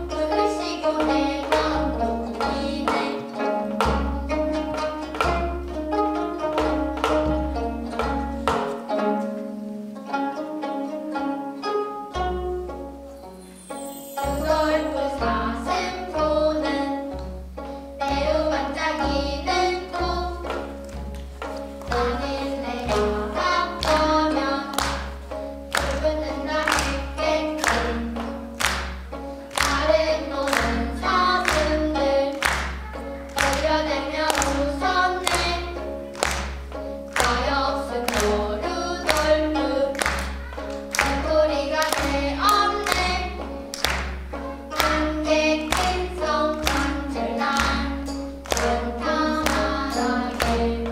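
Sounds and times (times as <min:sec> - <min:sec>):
children singing in unison: 0:00.0 - 0:04.4, 0:13.4 - 0:21.0, 0:21.8 - 0:50.9
plucked zither: 0:00.0 - 0:50.9.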